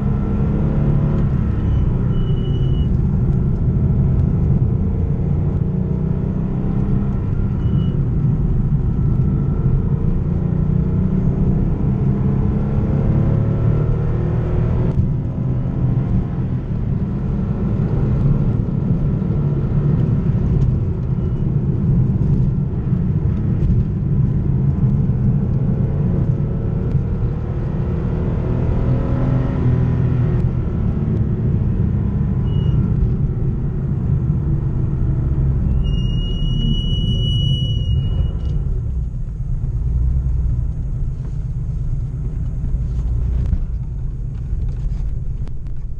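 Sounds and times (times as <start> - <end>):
car engine revving while driving: 0.0 - 45.5.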